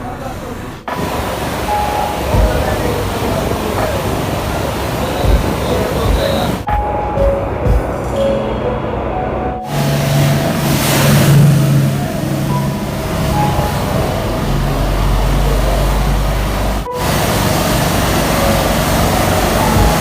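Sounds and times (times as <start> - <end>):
loud steady rushing noise: 0.0 - 20.0
vehicle engine running: 0.0 - 20.0.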